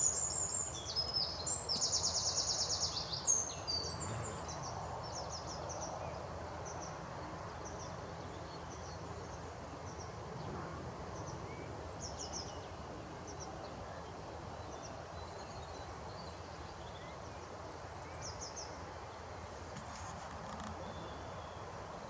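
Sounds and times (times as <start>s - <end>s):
outdoor background noise: 0.0s - 22.0s
small birds chirping: 0.0s - 22.0s.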